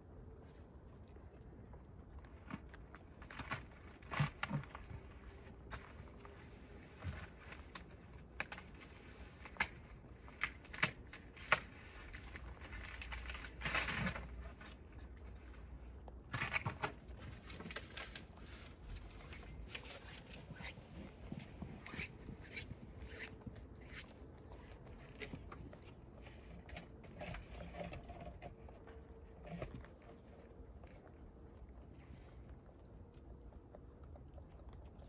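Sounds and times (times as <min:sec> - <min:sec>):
soft rustle: 0:02.0 - 0:35.0.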